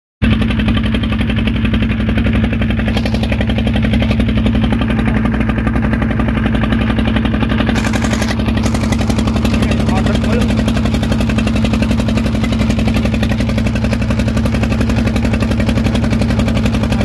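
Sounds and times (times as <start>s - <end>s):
boat engine running: 0.2s - 17.0s.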